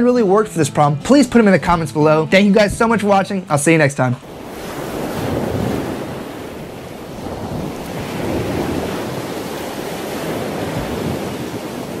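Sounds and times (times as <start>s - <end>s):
wind: 0.0s - 12.0s
ocean surf rushing: 2.0s - 12.0s.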